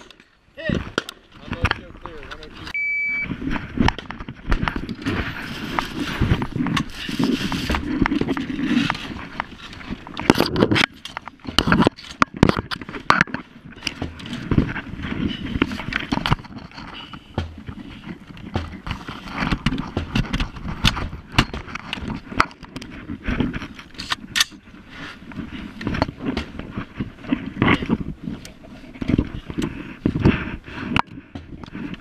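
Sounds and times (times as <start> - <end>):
camera rubbing against clothing: 2.1 - 31.0.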